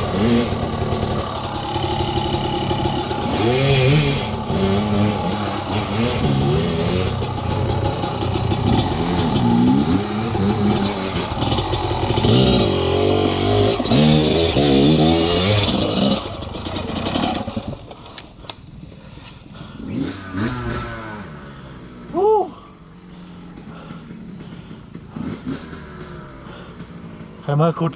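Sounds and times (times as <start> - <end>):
dirt bike engine revving: 0.0 - 17.8, 19.6 - 27.9.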